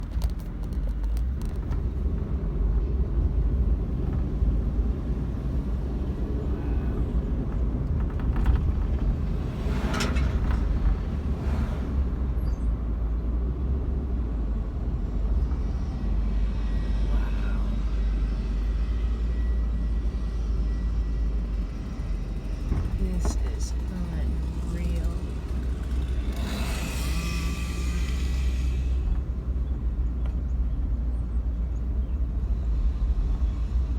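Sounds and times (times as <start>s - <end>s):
car road and engine rumble: 0.0s - 33.9s.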